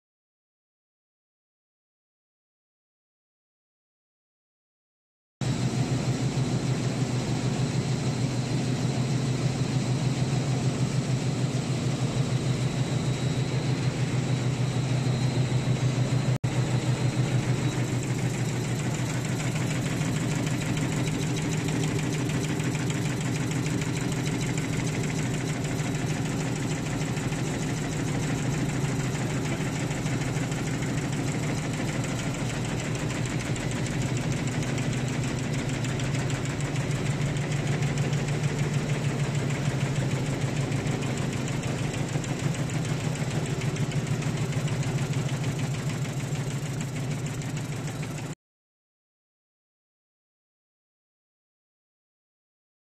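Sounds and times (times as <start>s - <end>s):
low machine hum: 5.5s - 48.3s.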